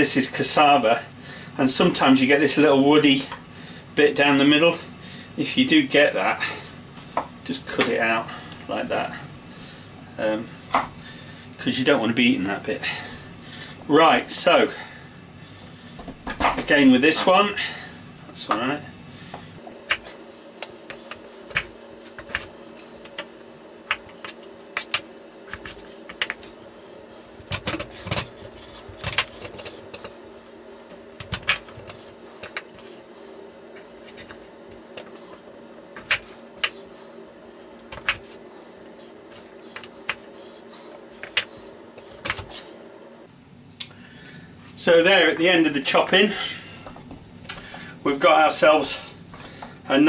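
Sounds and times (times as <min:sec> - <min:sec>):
background hum: 0:00.0 - 0:50.0.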